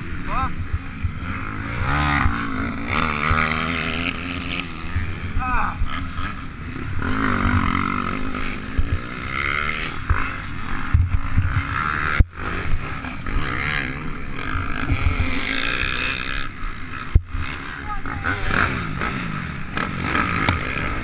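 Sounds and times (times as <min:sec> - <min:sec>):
motocross engines revving: 0:00.0 - 0:21.0.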